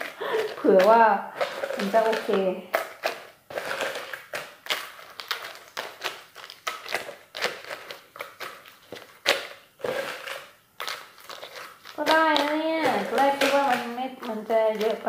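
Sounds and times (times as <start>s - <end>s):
crab shells crunching and cracking: 0.0s - 15.0s.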